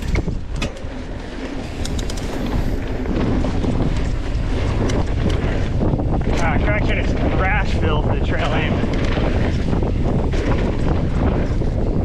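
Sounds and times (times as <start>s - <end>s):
bike clicks and rattles: 0.0s - 12.0s
tyres rolling on dirt: 0.0s - 12.0s
wind buffeting microphone: 0.0s - 12.0s.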